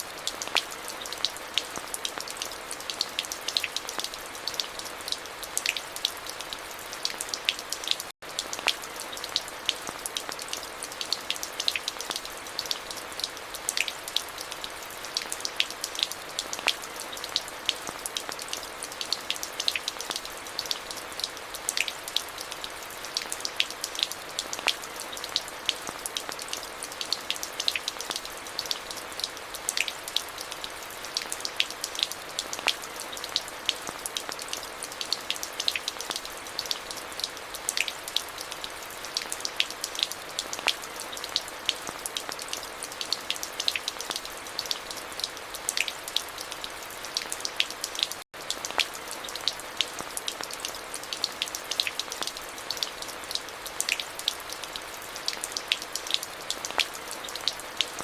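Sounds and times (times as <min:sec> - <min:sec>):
rain falling with drop hits: 0:00.0 - 0:58.0.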